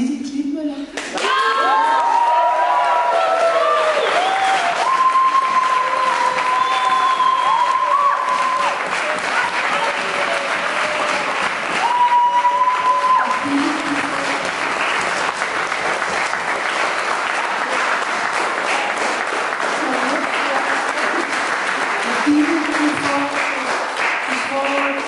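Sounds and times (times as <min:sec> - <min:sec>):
audience applauding: 0:01.1 - 0:25.0.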